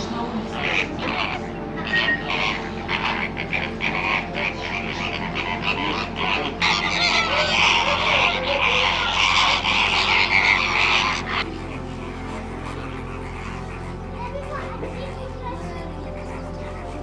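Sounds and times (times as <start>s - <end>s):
flamingo flock croaking: 0.0s - 17.0s.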